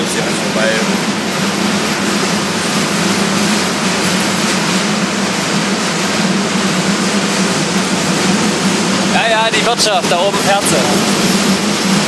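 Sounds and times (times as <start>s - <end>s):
constant hum: 0.0s - 12.0s
train rushing on tracks: 0.0s - 12.0s.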